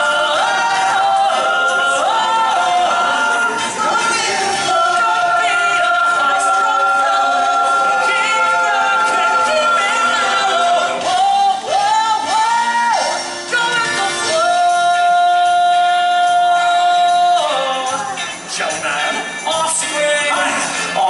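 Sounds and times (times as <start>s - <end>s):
backing music: 0.0s - 21.0s
person singing: 0.0s - 21.0s.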